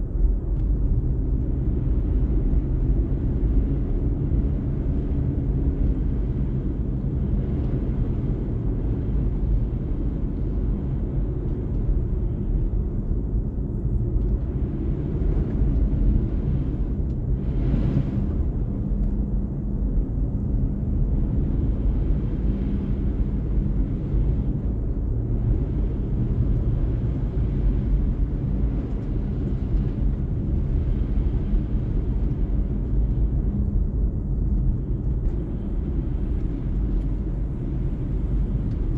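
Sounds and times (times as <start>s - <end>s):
car engine hum: 0.0s - 38.9s
tyre road noise: 0.0s - 38.9s.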